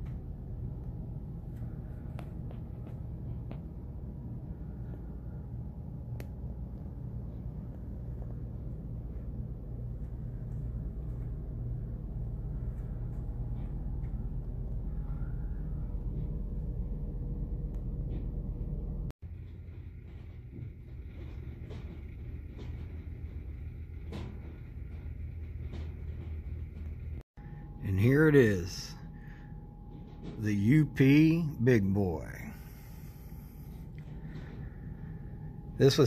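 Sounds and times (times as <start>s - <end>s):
low room rumble and hum: 0.0s - 36.0s.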